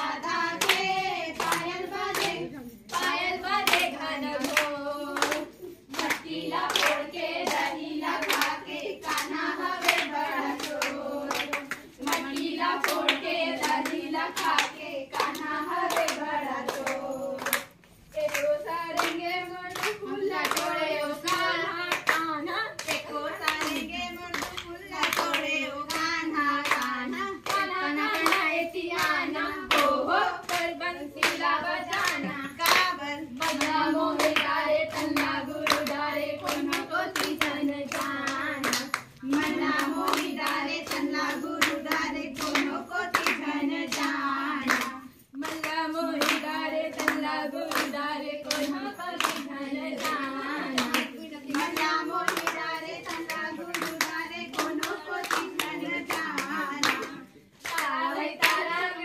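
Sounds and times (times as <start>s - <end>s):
hands clapping on a beat: 0.0s - 59.0s
women singing: 0.0s - 59.0s.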